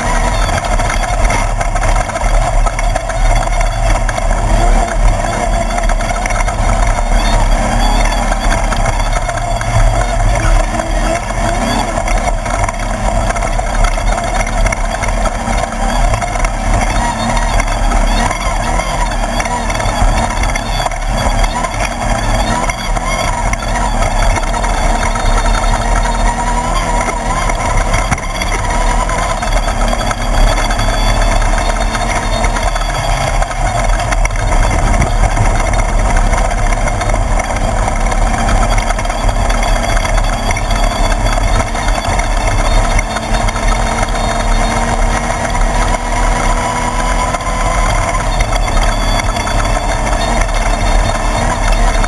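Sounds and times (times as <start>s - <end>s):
race buggy engine running: 0.0s - 52.0s.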